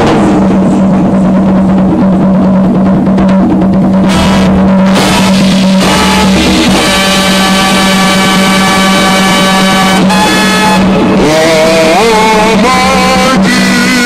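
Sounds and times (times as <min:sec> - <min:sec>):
loud dance music with drums: 0:00.0 - 0:14.0
sustained held notes: 0:00.0 - 0:14.0.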